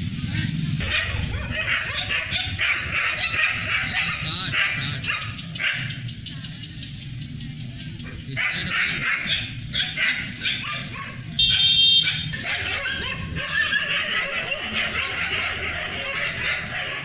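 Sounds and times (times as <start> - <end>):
dogs barking and yelping: 0.0 - 17.0
dog yelping high-pitched: 0.3 - 6.1, 8.0 - 17.0.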